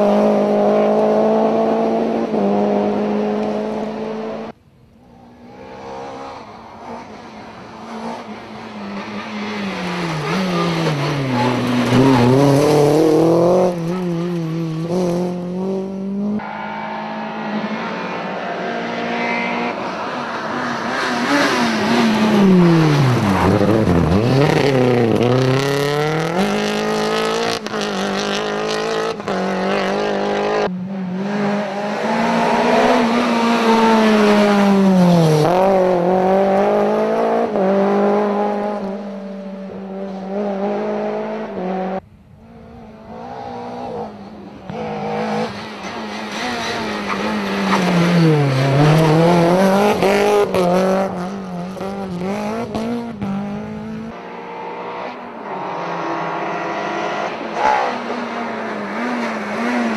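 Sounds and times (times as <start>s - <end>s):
rally car engines revving past: 0.0s - 59.9s.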